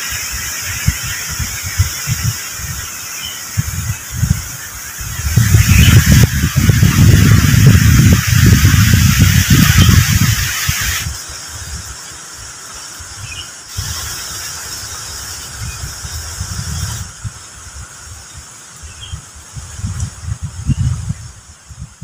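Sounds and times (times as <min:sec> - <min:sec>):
steady high hiss: 0:00.0 - 0:22.0
wind buffeting microphone: 0:00.0 - 0:22.0.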